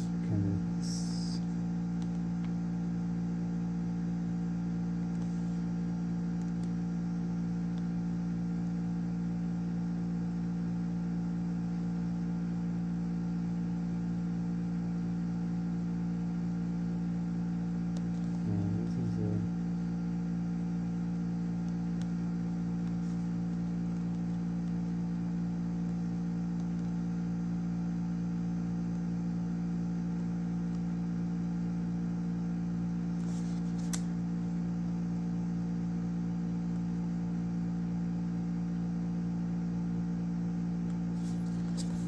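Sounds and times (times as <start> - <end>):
machine hum: 0.0 - 9.6, 17.1 - 42.0.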